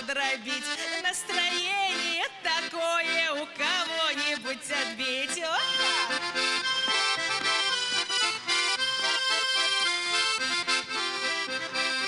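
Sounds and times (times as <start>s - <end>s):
button accordion playing lively tune: 0.0s - 12.0s.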